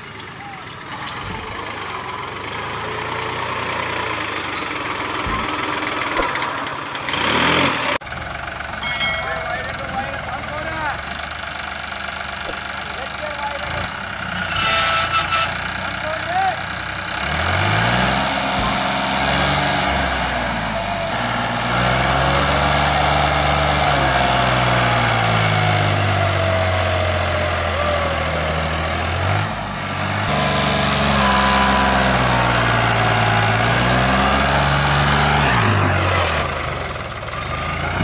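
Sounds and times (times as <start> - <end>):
tractor diesel engine labouring: 0.0 - 38.0.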